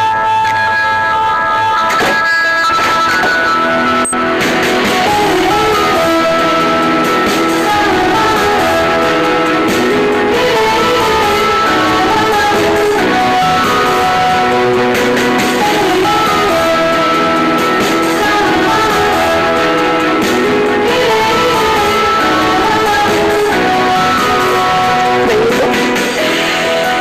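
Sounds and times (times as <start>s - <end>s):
guitar-led background music: 0.0s - 27.0s.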